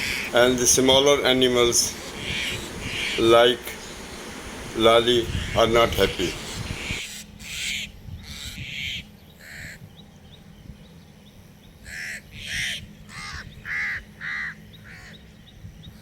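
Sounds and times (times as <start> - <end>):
crows cawing: 0.0 - 9.8, 11.8 - 15.2.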